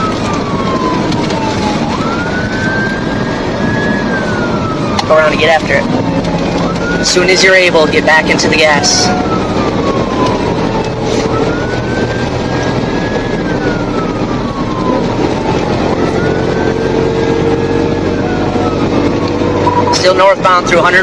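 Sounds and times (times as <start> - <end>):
police siren wailing: 0.0 - 21.0
road noise: 0.0 - 21.0
vehicle engine hum: 0.0 - 21.0.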